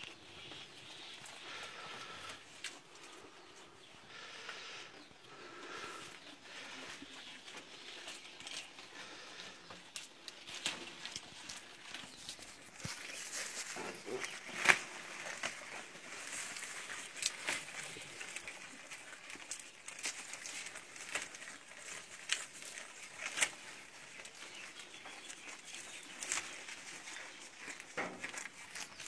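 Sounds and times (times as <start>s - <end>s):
goat chewing grass: 0.0s - 29.0s.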